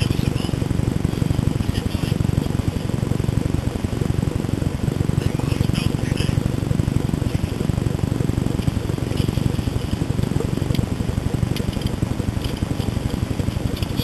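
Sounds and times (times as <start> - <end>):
low pulsing engine rumble: 0.0 - 14.0.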